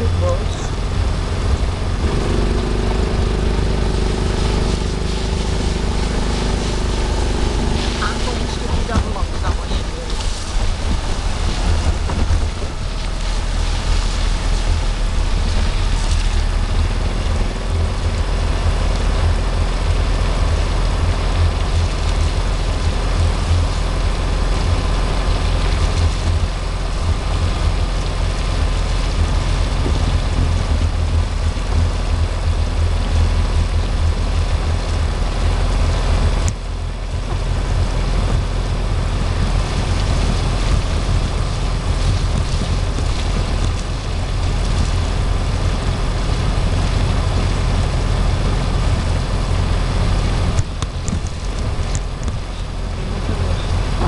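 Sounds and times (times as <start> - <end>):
boat engine rumbling: 0.0 - 54.0
wind buffeting microphone: 0.0 - 54.0.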